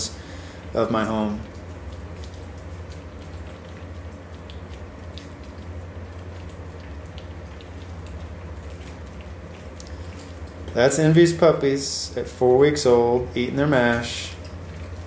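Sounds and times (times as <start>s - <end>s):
steady low hum: 0.0s - 15.0s
puppies lapping food: 0.1s - 15.0s.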